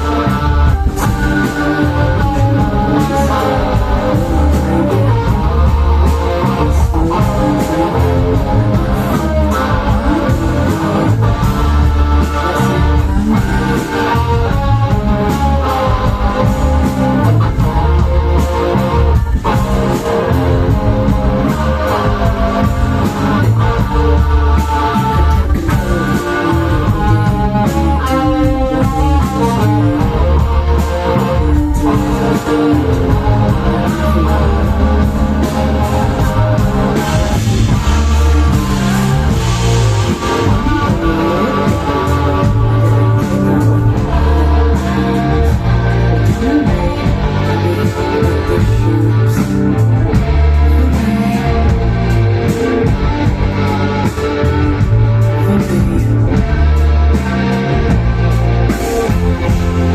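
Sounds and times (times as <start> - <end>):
drum hits: 0.0 - 59.9
electric guitar: 0.0 - 59.9
heavy pulsing bass: 0.0 - 59.9
rock band playing live: 0.0 - 59.9.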